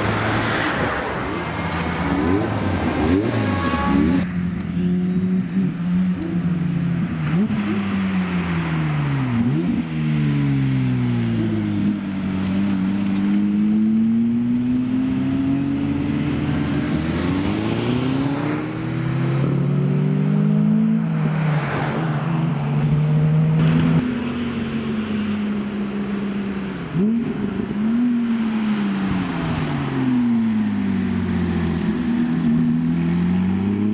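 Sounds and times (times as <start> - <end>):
sports cars revving and passing: 0.0 - 33.9.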